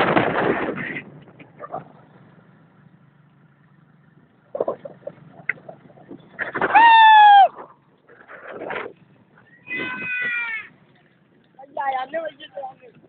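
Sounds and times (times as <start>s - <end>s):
cart knocks and hooves clacking: 0.0s - 13.0s
cart rumbling on asphalt: 0.0s - 13.0s.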